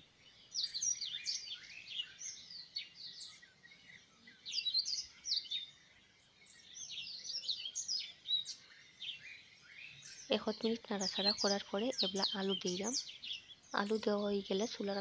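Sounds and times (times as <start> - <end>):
small birds twittering: 0.0 - 15.0.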